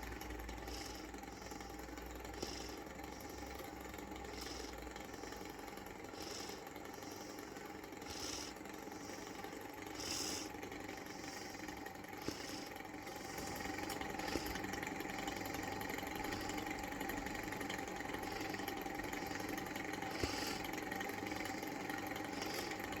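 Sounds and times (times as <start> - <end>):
hot air engine humming: 0.0 - 23.0.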